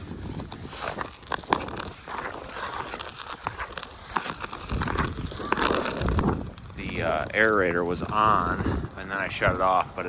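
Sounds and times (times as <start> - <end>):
scraping and shuffling on ice: 0.0 - 10.0.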